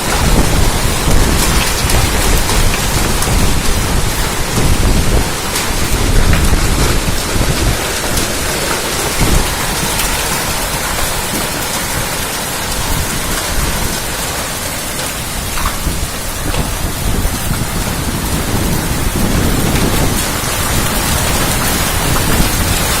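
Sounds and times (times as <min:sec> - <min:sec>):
hailstones ticking: 0:00.0 - 0:23.0
heavy rain hiss: 0:00.0 - 0:23.0.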